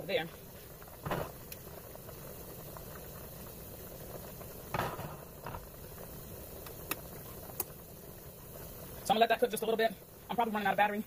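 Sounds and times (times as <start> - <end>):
onions sizzling in a saucepan: 0.0 - 11.0.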